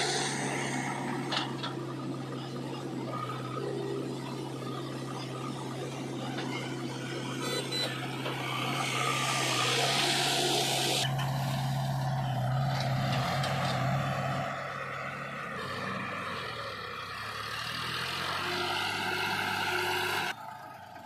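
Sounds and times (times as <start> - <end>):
backhoe diesel engine running: 0.0 - 21.0
tractor engine: 0.0 - 21.0.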